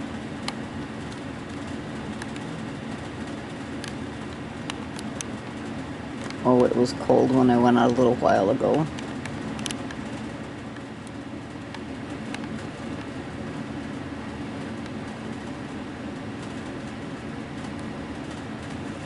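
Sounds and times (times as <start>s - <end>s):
furnace humming: 0.0s - 19.0s.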